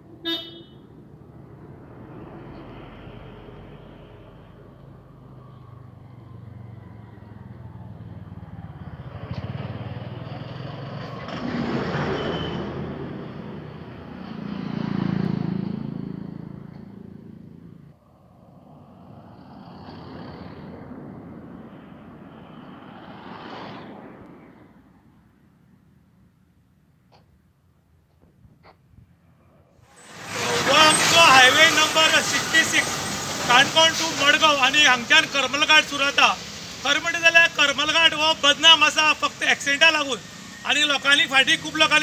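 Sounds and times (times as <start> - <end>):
vehicles passing close by: 0.0 - 42.0.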